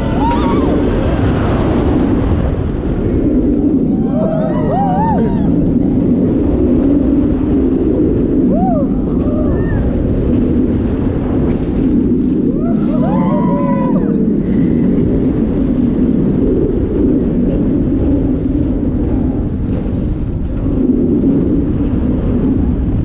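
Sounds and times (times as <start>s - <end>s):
roller coaster rumbling on track: 0.0s - 23.0s
wind rushing past microphone: 0.0s - 23.0s.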